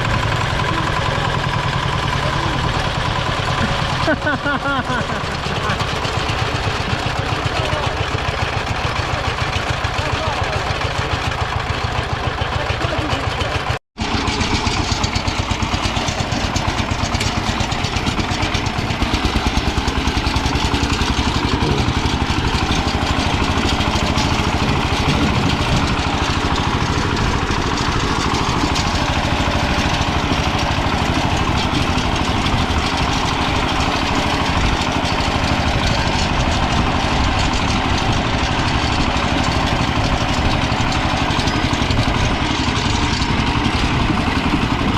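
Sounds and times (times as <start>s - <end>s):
diesel tractor engine running: 0.0s - 44.9s.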